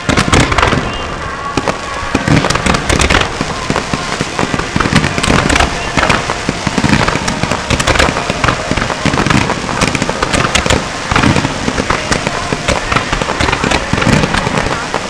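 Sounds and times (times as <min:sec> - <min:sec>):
fireworks bursting: 0:00.0 - 0:15.0
fireworks crackling: 0:00.0 - 0:15.0.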